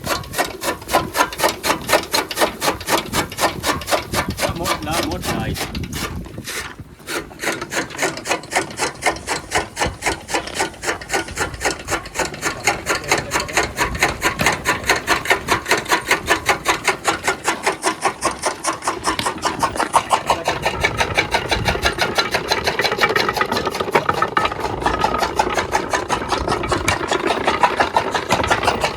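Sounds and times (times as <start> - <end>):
chaff cutter chopping fodder: 0.0 - 28.9.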